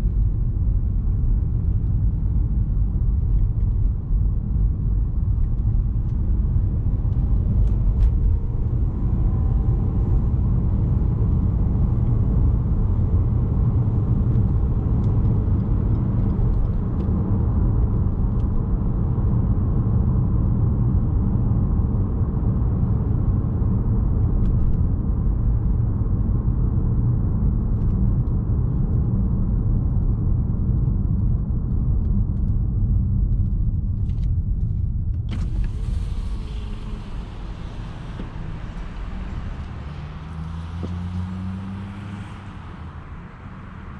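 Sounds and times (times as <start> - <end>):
car engine and road rumble: 0.0 - 43.9.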